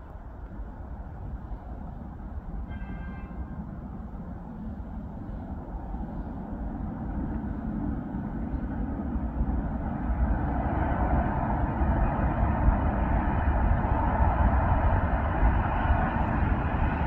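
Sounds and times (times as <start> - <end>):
electric train rumbling past: 0.0 - 17.0.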